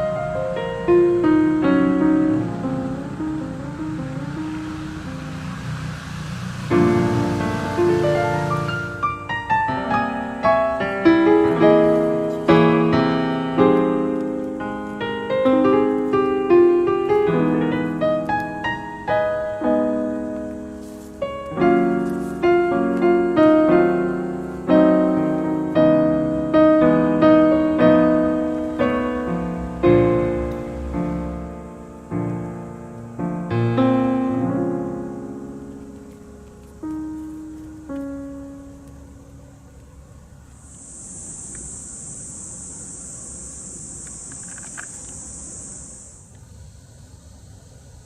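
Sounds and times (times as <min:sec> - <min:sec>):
gentle piano melody: 0:00.0 - 0:44.2.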